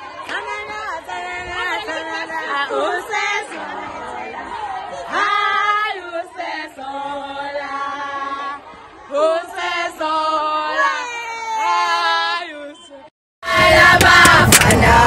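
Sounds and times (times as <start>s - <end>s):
women singing a chant: 0.0s - 15.0s.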